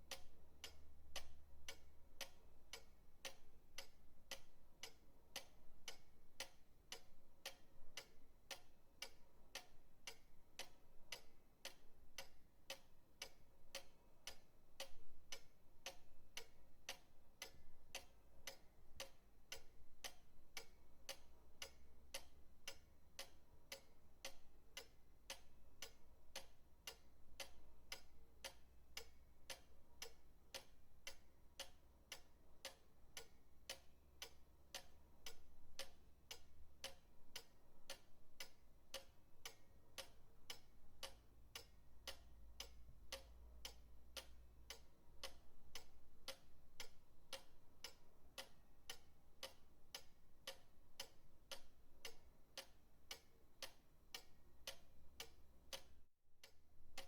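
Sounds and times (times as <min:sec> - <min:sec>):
pendulum clock ticking: 0:00.0 - 0:57.0.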